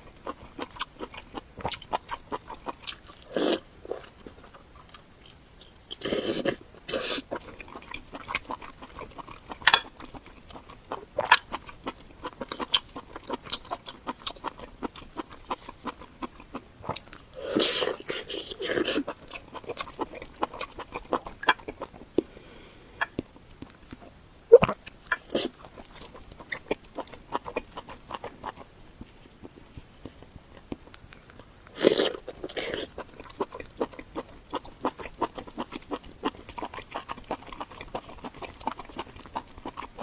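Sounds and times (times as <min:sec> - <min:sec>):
wet chewing mouth sounds: 0:00.0 - 0:40.0.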